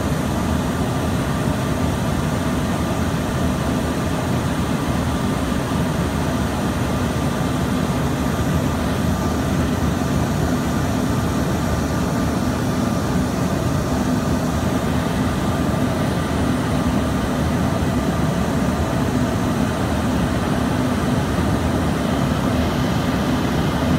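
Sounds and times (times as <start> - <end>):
jet engine rumble in cabin: 0.0 - 23.9.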